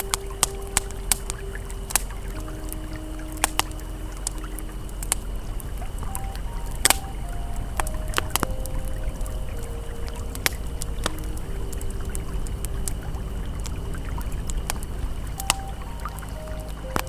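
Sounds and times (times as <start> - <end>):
campfire crackling and popping: 0.0 - 17.0
faint ambient tones: 0.0 - 17.0
flowing river: 0.0 - 17.0.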